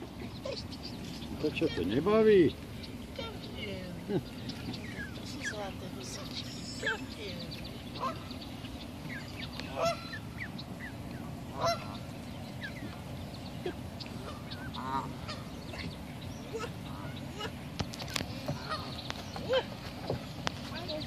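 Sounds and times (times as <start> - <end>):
geese and goslings calling: 0.1 - 19.9.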